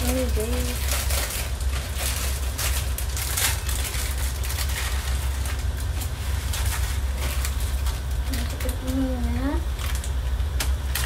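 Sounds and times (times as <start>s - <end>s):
plastic packet crinkling: 0.0s - 11.0s
steady low rumble: 0.0s - 11.0s.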